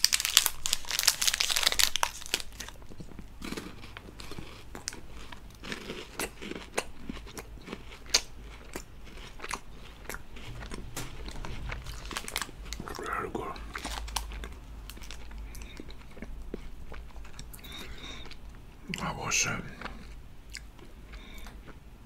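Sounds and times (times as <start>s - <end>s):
crunching wafer bar: 0.0s - 18.3s
chewing: 1.6s - 21.8s.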